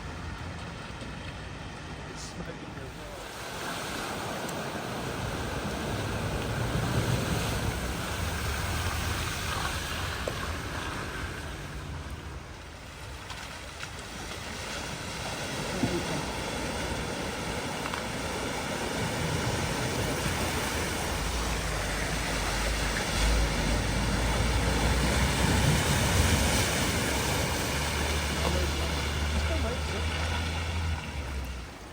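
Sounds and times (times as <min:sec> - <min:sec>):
floodwater rushing: 0:00.0 - 0:31.9
vehicle engine: 0:00.0 - 0:31.9
wind buffeting microphone: 0:02.7 - 0:31.8.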